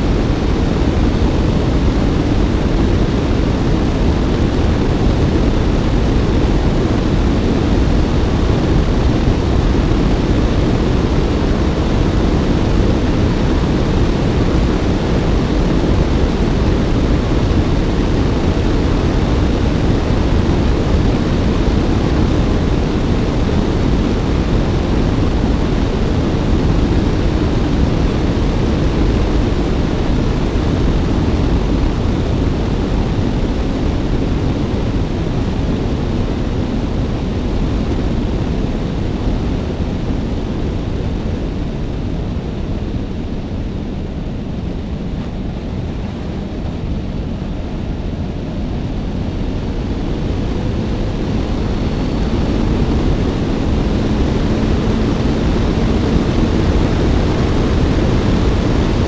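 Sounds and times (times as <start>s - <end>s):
motorcycle engine and road noise: 0.0s - 59.0s
wind buffeting microphone: 0.0s - 59.0s.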